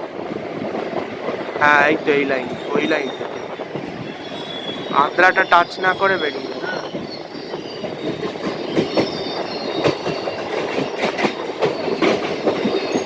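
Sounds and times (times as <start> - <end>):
train rumble: 0.0 - 13.0
train wheels clattering: 0.0 - 13.0
wheels squealing: 1.6 - 13.0.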